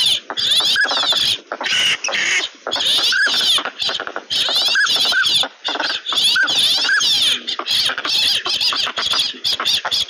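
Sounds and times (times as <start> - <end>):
ducks chattering quacks: 0.0 - 10.0
ducks whistling: 0.0 - 10.0.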